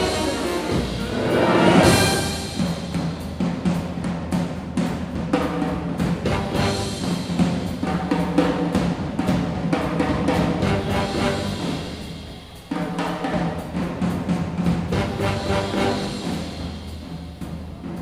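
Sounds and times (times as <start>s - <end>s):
drums and percussion: 0.0s - 18.0s
jazz big band playing: 0.0s - 18.0s.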